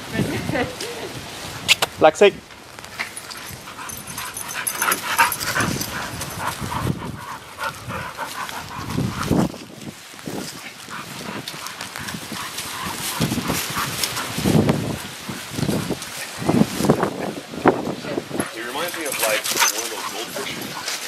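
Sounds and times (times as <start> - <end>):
dogs playing: 2.8 - 17.1, 18.0 - 21.0.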